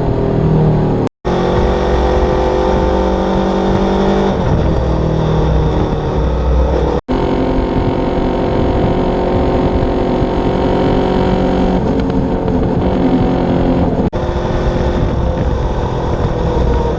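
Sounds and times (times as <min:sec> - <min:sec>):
motorcycle engine running: 0:00.8 - 0:16.9.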